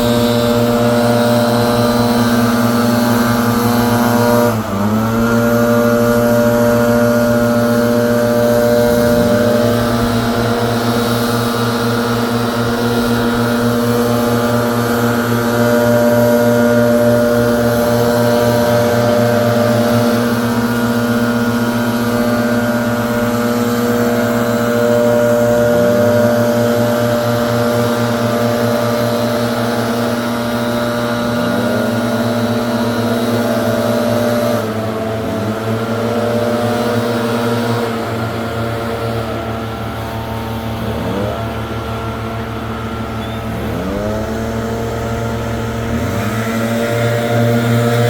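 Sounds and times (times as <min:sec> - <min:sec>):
leaf blower running: 0:00.0 - 0:48.0.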